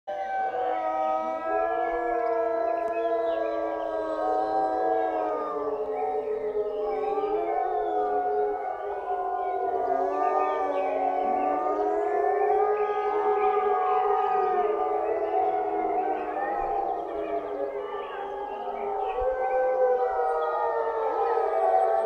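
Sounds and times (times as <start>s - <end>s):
wolves howling in chorus: 0.1s - 22.0s.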